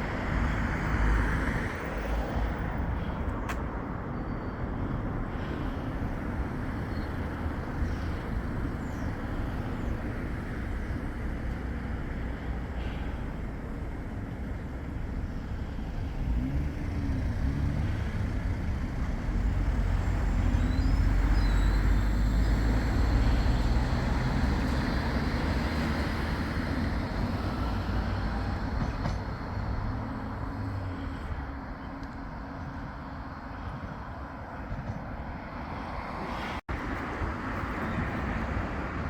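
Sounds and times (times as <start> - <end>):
tram passing: 0.0 - 39.0.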